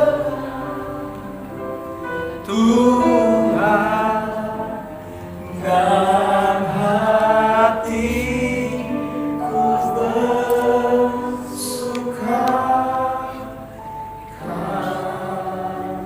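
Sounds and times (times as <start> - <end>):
musical accompaniment: 0.0 - 16.0
voices singing slow worship song: 0.0 - 16.0.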